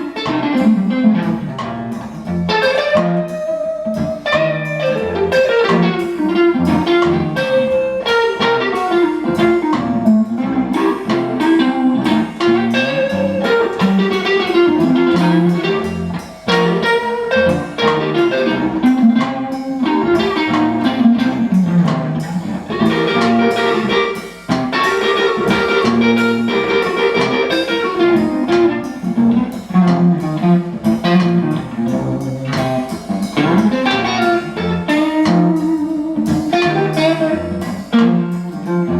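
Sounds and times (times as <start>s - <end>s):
blues guitar instrumental: 0.0s - 38.9s
steady beat: 0.0s - 38.9s.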